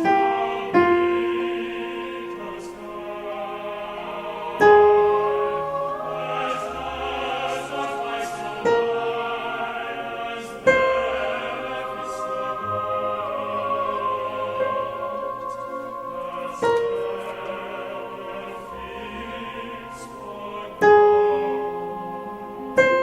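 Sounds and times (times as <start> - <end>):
choir singing: 0.0 - 23.0.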